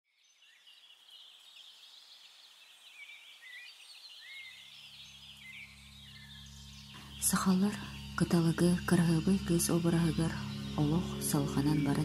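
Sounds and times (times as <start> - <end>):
small birds singing: 0.1 - 12.0.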